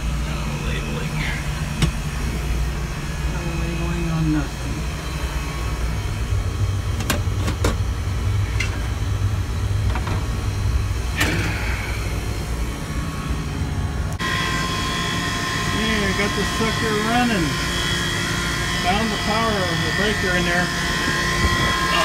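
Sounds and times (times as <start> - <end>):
compressor whine: 0.0 - 22.0
low machinery hum: 0.0 - 22.0.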